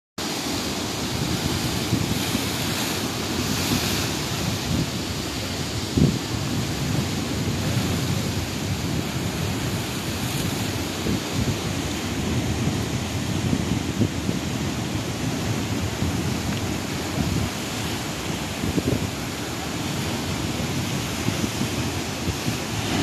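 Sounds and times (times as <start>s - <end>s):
surf breaking against rocks: 0.2s - 23.0s
wind buffeting microphone: 0.4s - 23.0s.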